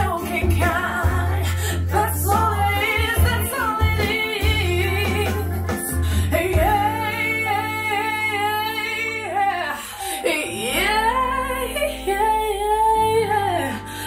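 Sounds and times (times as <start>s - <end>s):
soul song over loudspeakers: 0.0s - 14.0s.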